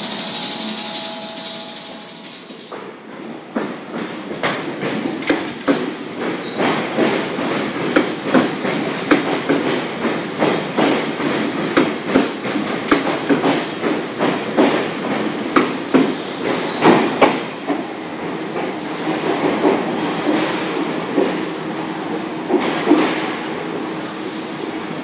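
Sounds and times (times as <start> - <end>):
train wheels clacking over rail joints: 0.0 - 21.4
train rumble: 0.0 - 25.0.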